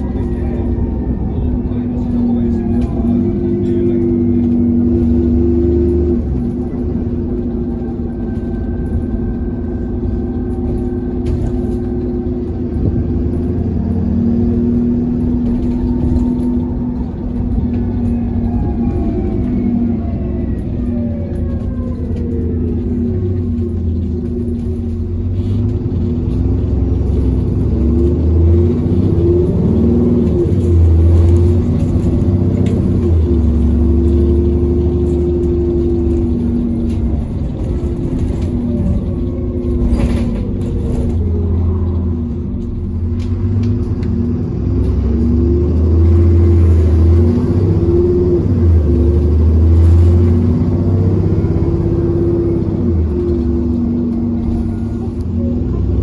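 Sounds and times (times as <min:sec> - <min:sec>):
bus diesel engine accelerating: 0:00.0 - 0:56.0.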